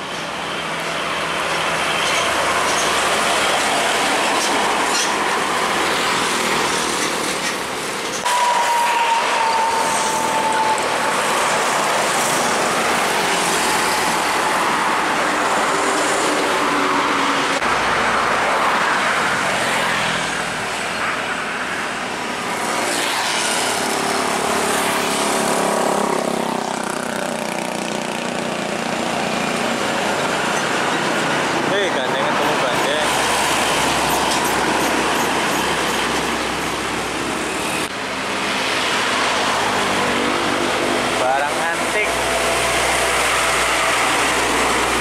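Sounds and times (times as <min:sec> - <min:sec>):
traffic passing close by: 0:00.0 - 0:45.0.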